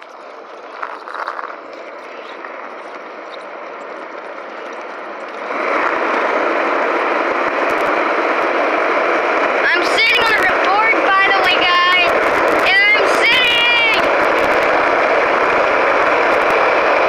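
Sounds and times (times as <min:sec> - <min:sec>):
skateboard wheels rolling on asphalt: 0:00.0 - 0:17.0.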